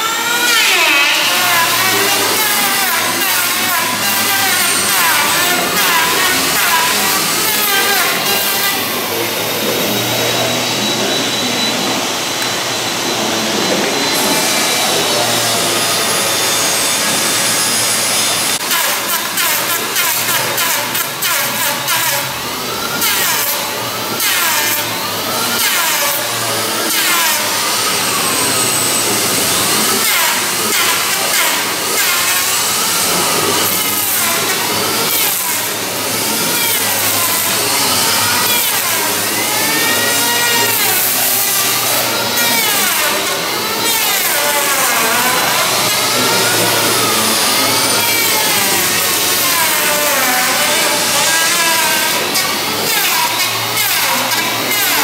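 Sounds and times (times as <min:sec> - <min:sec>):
power tool running: 0:00.0 - 0:55.0.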